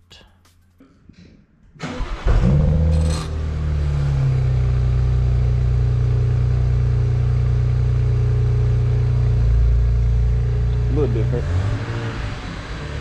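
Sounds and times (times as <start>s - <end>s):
car engine starting and idling: 1.8s - 13.0s.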